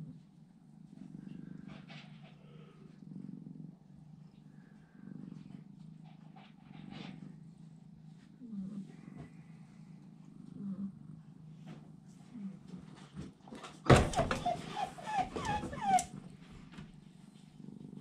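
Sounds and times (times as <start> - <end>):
kitten purring: 0.0 - 13.5, 14.4 - 18.0.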